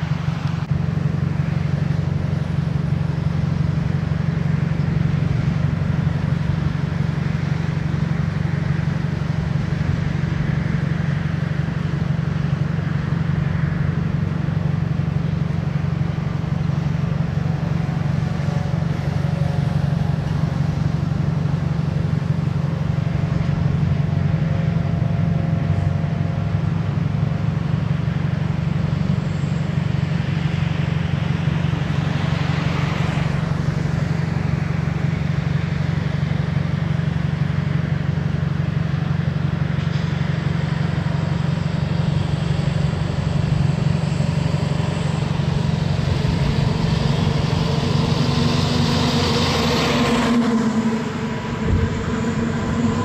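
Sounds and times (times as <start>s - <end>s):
low engine drone: 0.0s - 53.0s.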